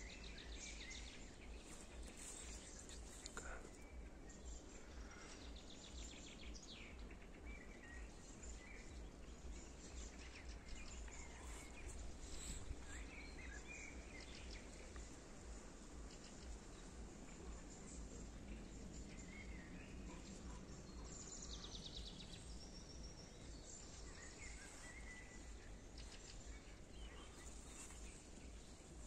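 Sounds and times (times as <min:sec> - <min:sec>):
bird chirps and trills: 0:00.0 - 0:29.0.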